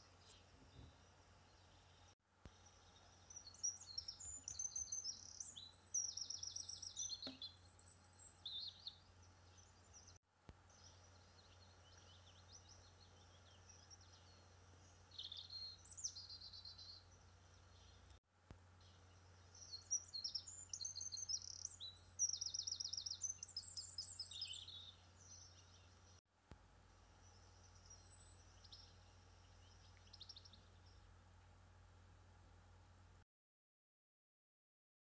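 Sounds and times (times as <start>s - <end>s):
songbirds trilling: 0.0s - 18.2s, 18.8s - 26.2s, 27.2s - 31.1s
faint outdoor background noise: 0.0s - 33.2s.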